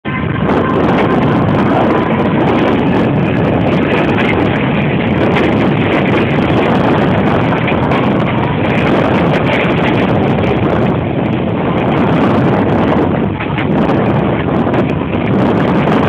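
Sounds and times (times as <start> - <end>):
vehicle travel noise: 0.0 - 16.0
wind buffeting microphone: 0.0 - 16.0.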